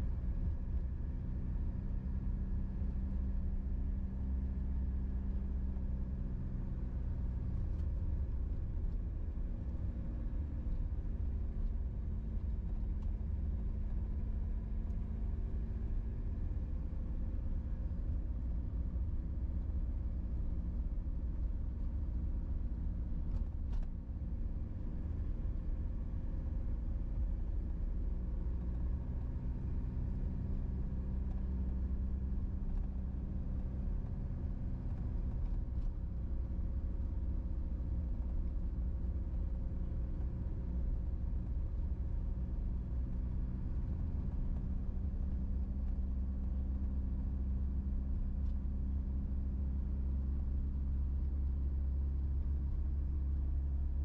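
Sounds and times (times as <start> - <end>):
vehicle engine drone: 5.6 - 54.0.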